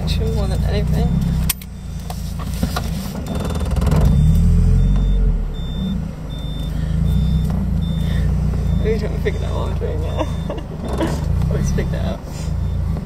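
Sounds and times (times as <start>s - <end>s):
car engine under load: 0.0s - 13.0s
wind and road noise: 0.0s - 13.0s.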